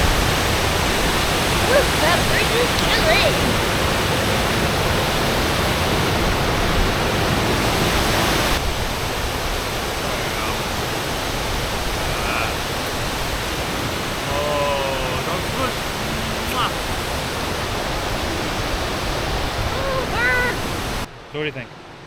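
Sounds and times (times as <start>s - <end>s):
waterfall crashing: 0.0s - 21.1s.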